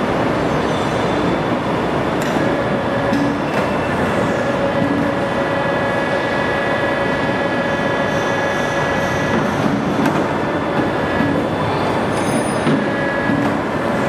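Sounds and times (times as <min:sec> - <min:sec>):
pipe bender mechanical whine: 0:01.6 - 0:14.0.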